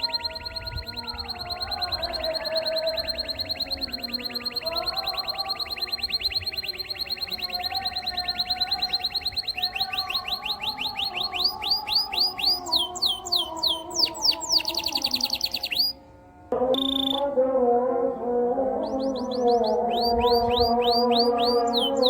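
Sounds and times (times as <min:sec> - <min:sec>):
canary singing a fast trill: 0:00.0 - 0:22.0.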